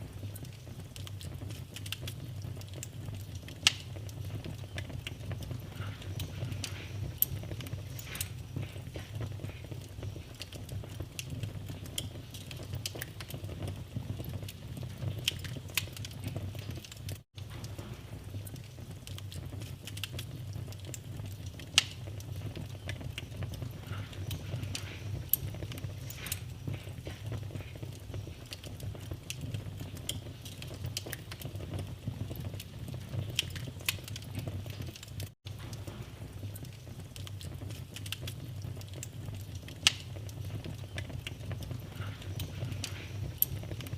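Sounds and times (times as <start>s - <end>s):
low rumble of flame: 0.0s - 43.9s
wood fire crackling and popping: 0.0s - 43.9s.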